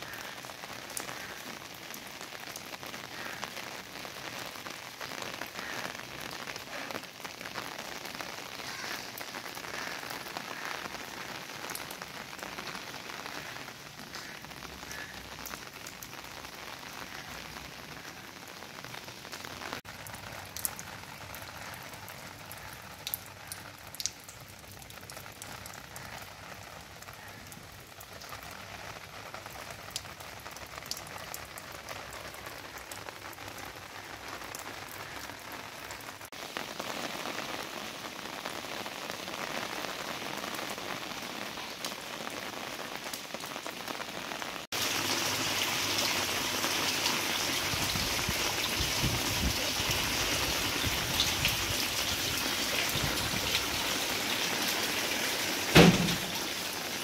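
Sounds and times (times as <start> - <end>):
heavy rain on stone: 0.0 - 57.0
separate raindrops: 0.0 - 57.0.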